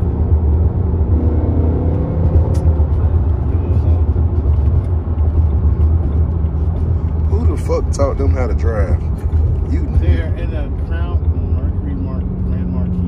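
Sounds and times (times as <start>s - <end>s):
car engine and tyres droning: 0.0s - 13.0s.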